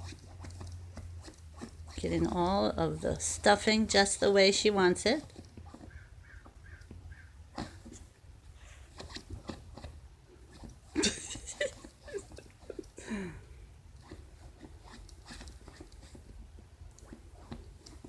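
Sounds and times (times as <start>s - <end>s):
dog scratching dog bed: 0.0s - 13.0s, 13.9s - 18.0s.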